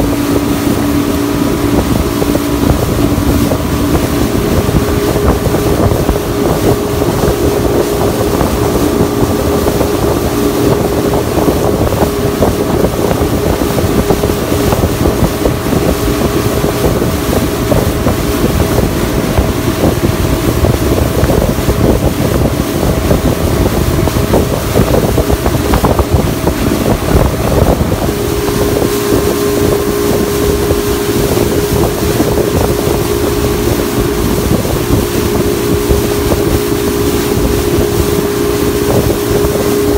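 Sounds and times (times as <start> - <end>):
motorboat engine drone: 0.0 - 39.9
water rushing along hull: 0.0 - 39.9
wind buffeting microphone: 0.0 - 39.9.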